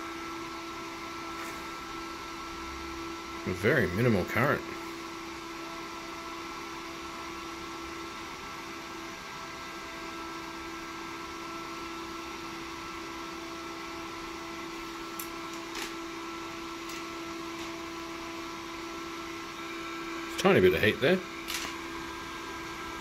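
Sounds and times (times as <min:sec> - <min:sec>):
server cooling fan whirring: 0:00.0 - 0:23.0.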